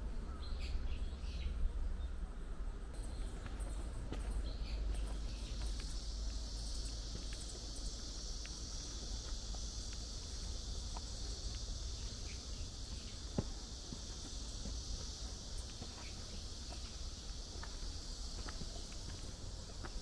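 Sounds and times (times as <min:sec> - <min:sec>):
footsteps on dirt path: 0:03.0 - 0:20.0
high-pitched insect chorus: 0:03.0 - 0:20.0.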